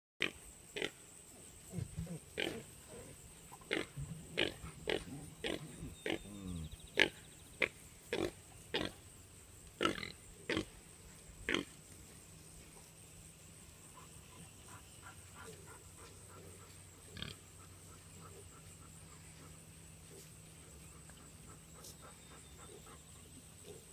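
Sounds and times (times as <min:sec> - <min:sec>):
pigs grunting: 0:00.2 - 0:01.0, 0:01.6 - 0:09.0, 0:09.8 - 0:10.8, 0:11.5 - 0:11.8, 0:13.9 - 0:23.9.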